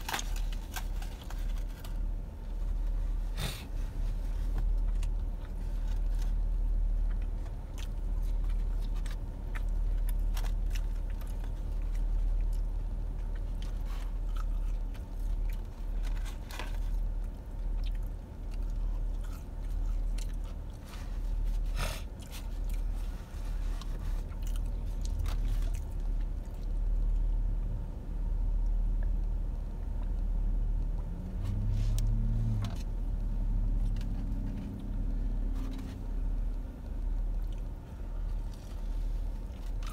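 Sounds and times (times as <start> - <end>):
low rumble inside a car: 0.0 - 39.9
chewing fried chicken: 4.2 - 32.1, 33.6 - 39.9.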